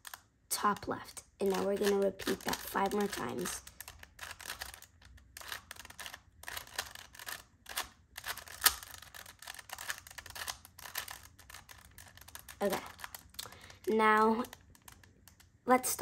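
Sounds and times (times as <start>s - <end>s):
puzzle cube plastic clicking: 0.0s - 15.7s.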